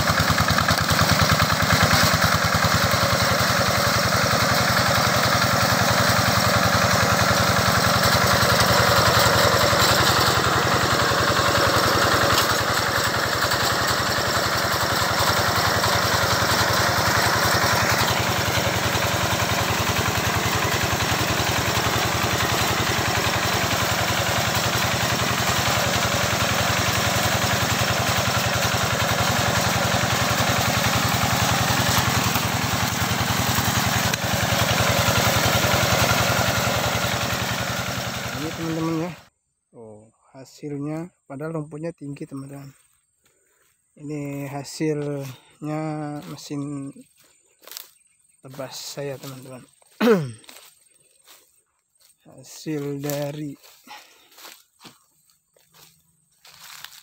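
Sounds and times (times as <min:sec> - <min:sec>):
engine running steadily: 0:00.0 - 0:39.3, 0:43.6 - 0:57.0.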